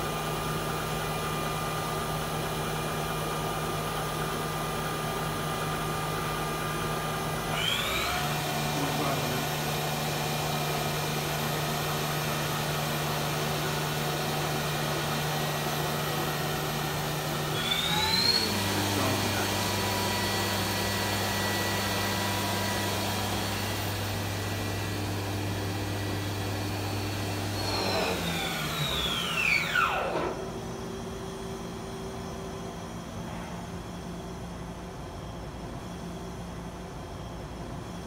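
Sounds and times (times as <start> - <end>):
machine spindle humming and whining: 0.0 - 38.0.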